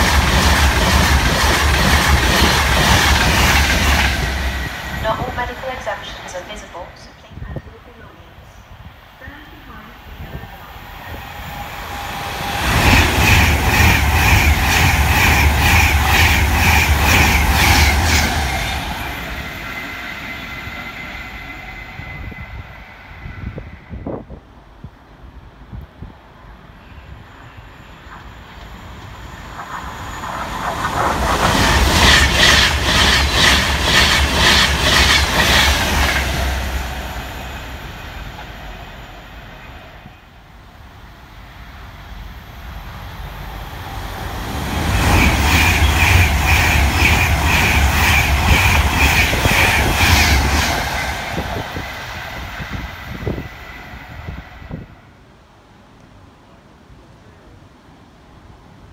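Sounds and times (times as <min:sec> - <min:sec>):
trains passing at speed: 0:00.0 - 0:58.9.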